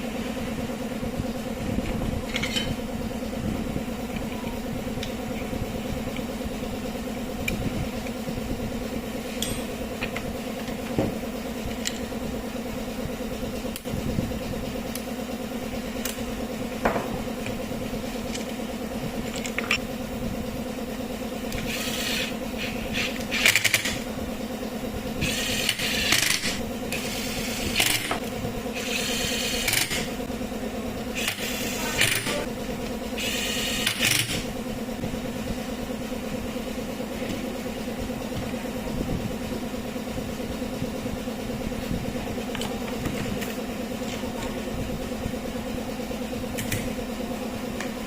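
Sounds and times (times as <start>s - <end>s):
small motor humming: 0.0s - 48.0s.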